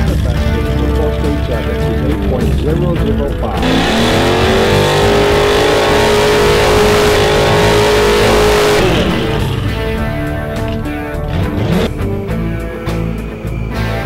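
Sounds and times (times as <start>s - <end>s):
car engine revving high: 0.8s - 12.2s.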